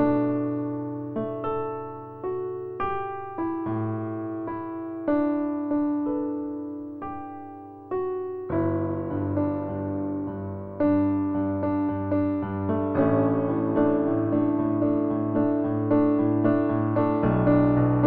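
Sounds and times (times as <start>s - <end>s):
gentle piano melody: 0.0s - 18.0s.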